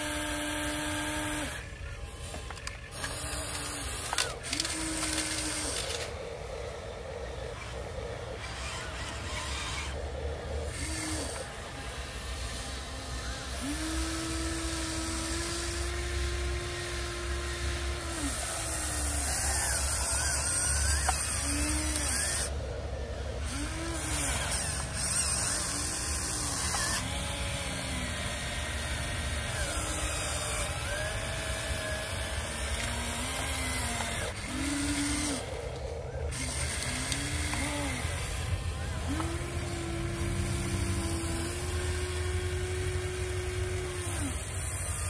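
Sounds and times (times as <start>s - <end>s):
electric motors whining: 0.0s - 45.0s.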